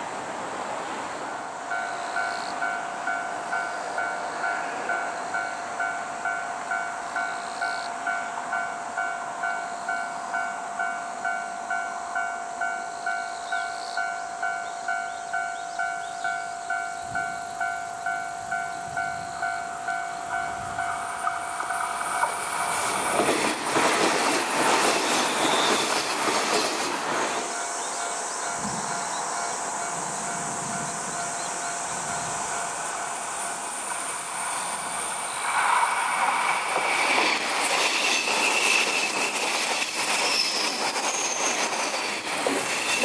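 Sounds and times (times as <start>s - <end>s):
electric train rumble: 0.0s - 43.0s.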